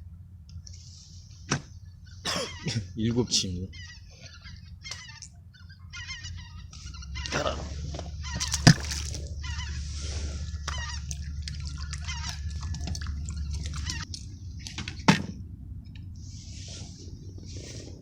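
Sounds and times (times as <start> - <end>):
birds calling: 0.0 - 18.0
steady low hum: 0.0 - 18.0.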